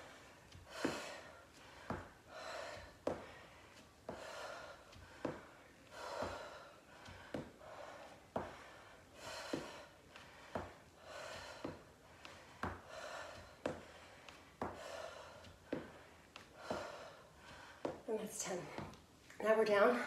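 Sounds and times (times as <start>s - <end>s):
woman breathing hard: 0.0s - 18.0s.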